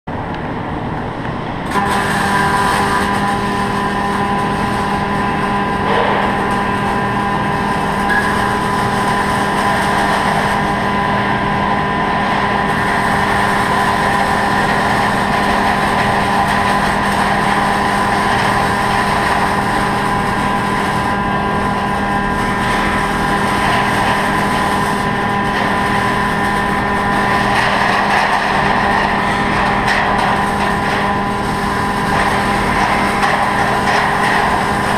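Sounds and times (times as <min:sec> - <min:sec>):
dense welding noise: 0:00.1 - 0:34.9
welding machine hum: 0:00.1 - 0:34.9.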